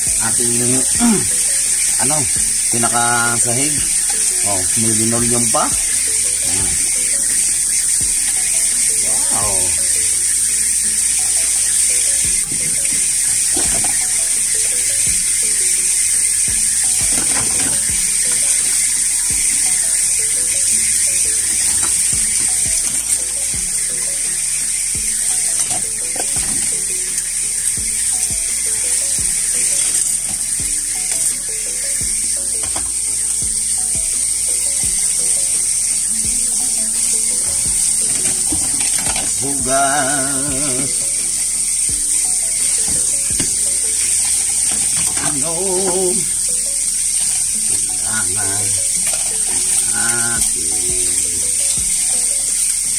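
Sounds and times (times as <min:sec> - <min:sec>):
tap water running into sink: 0:00.0 - 0:52.9.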